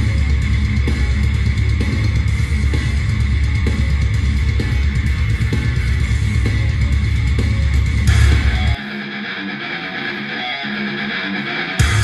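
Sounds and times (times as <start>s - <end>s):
rock music through speaker: 0.0s - 12.0s.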